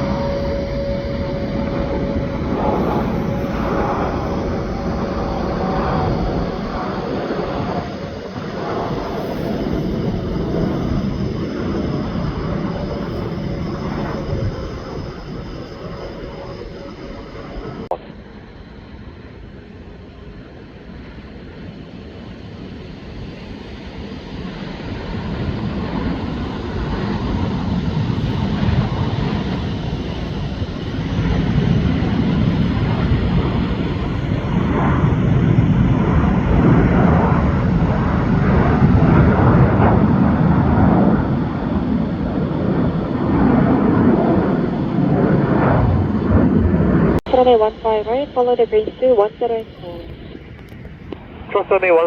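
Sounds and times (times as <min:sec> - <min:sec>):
jet engine rumble: 0:00.0 - 0:52.0.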